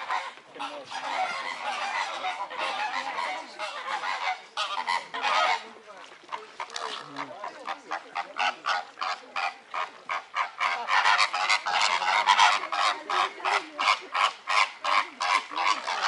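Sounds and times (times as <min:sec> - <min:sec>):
flamingos honking: 0:00.0 - 0:16.0.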